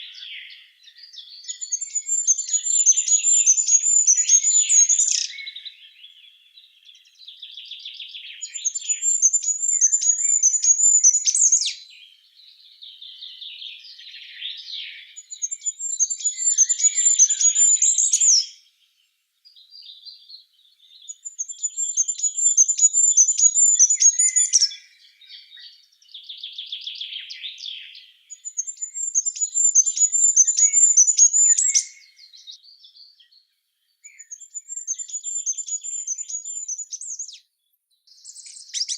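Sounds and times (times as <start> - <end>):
soft bird twittering: 0.0 - 38.9.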